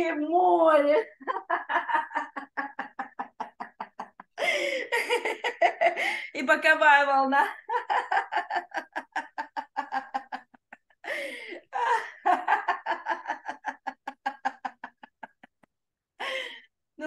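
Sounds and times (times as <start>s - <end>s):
person laughing in rhythmic pulses: 1.2s - 6.2s, 7.6s - 16.5s.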